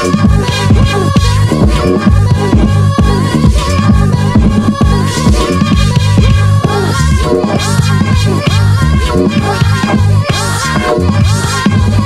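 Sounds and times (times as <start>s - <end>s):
dance music dj mix: 0.0s - 12.0s.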